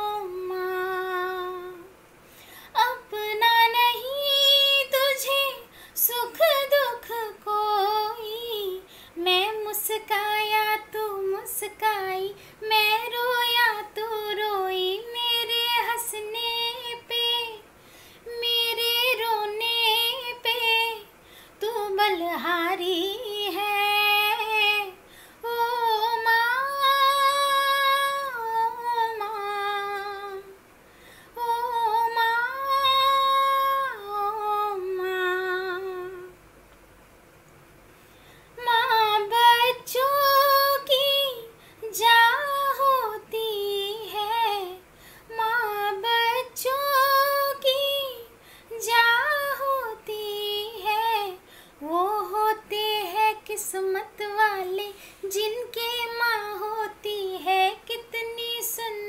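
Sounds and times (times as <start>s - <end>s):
woman singing unaccompanied: 0.0s - 2.0s, 2.7s - 30.6s, 31.3s - 36.4s, 38.6s - 59.0s.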